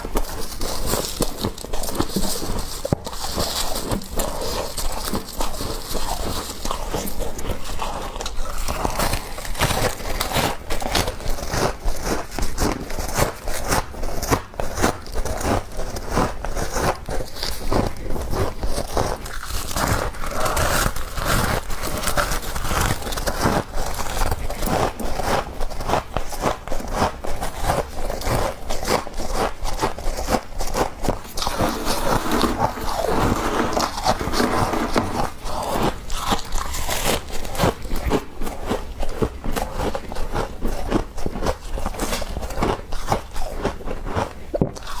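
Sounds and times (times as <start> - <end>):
frost crunching and scraping: 0.0 - 45.0.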